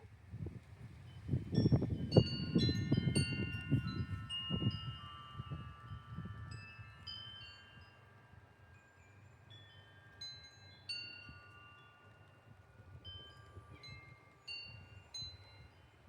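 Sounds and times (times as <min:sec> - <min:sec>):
low rumble of wind gusts: 0:00.0 - 0:16.0
wind chimes ringing: 0:01.1 - 0:16.0.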